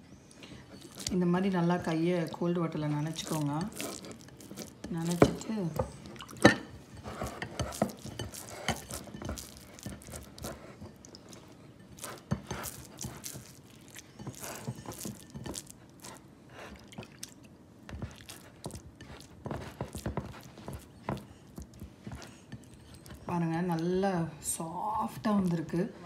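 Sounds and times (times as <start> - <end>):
wet hands squishing dough: 0.4 - 24.0.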